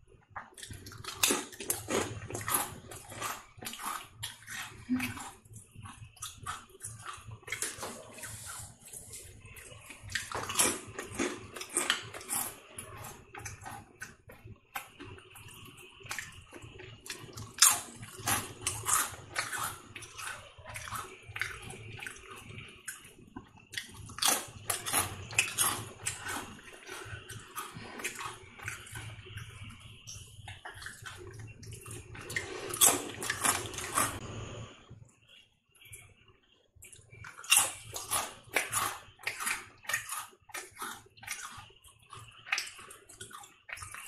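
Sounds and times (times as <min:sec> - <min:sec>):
chewing crackle: 0:00.1 - 0:34.5, 0:36.8 - 0:44.0
potato chips crunching: 0:00.4 - 0:14.2, 0:16.0 - 0:23.0, 0:23.7 - 0:34.2, 0:37.2 - 0:44.0.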